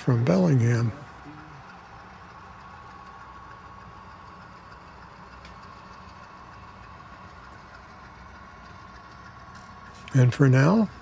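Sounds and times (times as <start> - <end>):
thin steady whine: 0.0 - 1.2, 1.8 - 11.0
model train wheels rumbling: 0.0 - 11.0.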